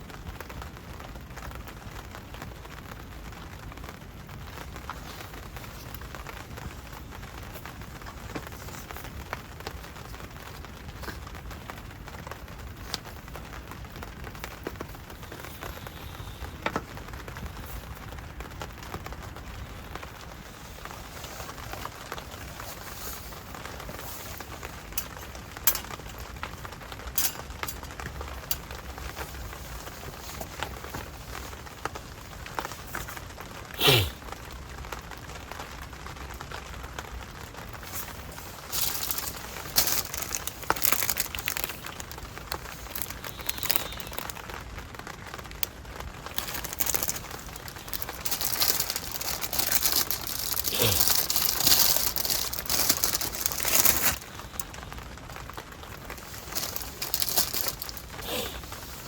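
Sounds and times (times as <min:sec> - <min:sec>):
rain on a tent: 0:00.0 - 0:59.0.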